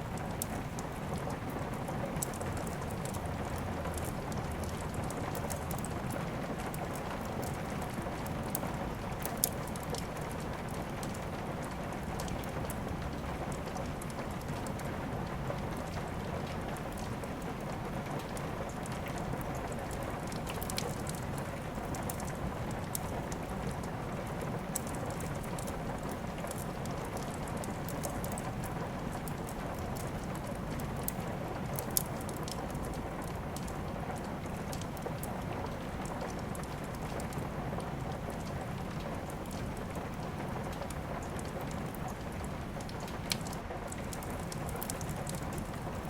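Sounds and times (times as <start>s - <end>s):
steady rain: 0.0s - 46.0s
wood fire crackling and popping: 0.0s - 46.0s.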